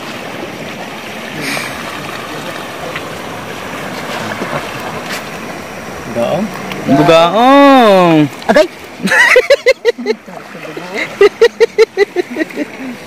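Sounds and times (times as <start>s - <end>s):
sea surf washing on shore: 0.0s - 13.0s.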